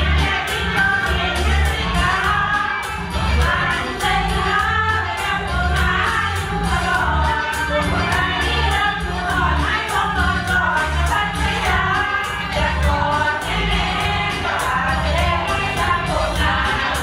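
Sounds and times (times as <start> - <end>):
song with singing voices: 0.0 - 17.0.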